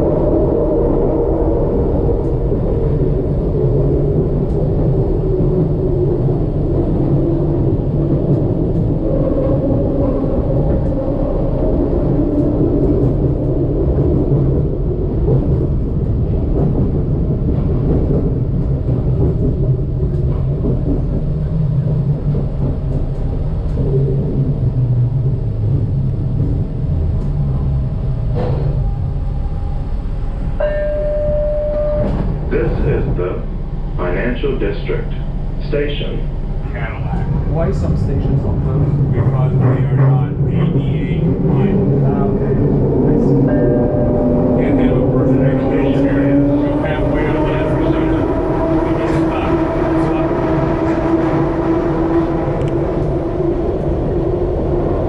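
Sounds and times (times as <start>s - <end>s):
automated train rumbling on track: 0.0s - 55.0s.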